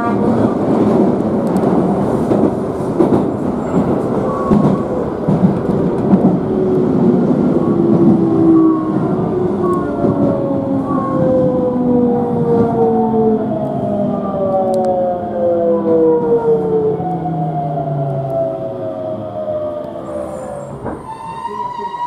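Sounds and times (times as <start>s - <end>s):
train wheels on track: 0.0s - 15.0s, 15.8s - 22.0s.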